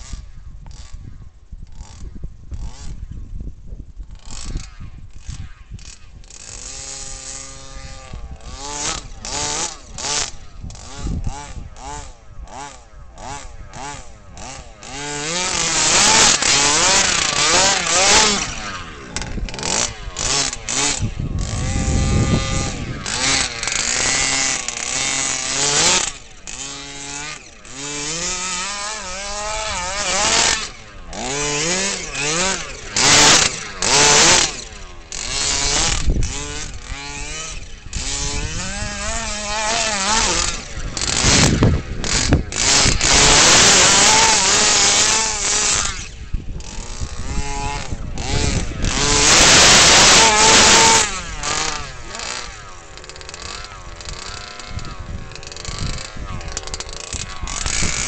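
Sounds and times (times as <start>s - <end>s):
two-stroke engine revving: 1.7s - 3.0s, 4.1s - 58.0s.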